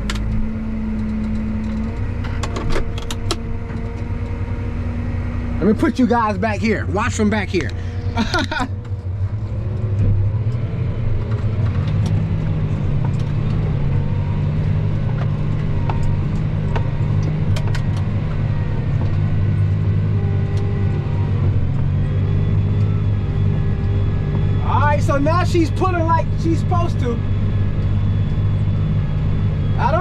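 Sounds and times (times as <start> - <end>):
tractor engine under load: 0.0 - 30.0.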